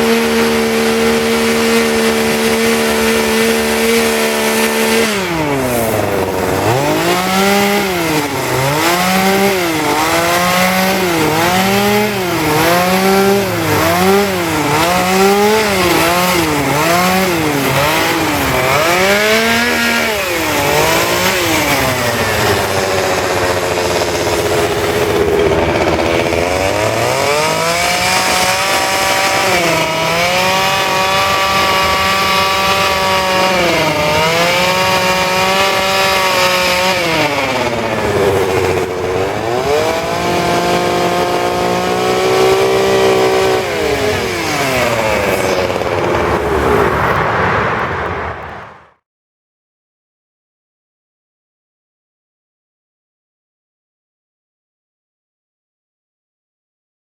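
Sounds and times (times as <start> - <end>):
chainsaw carving wood: 0.0 - 47.2.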